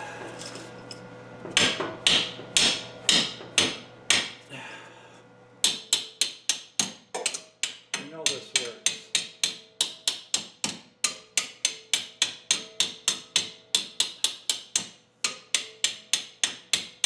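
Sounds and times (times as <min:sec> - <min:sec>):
hammer striking steel: 0:01.5 - 0:04.4, 0:05.6 - 0:17.0.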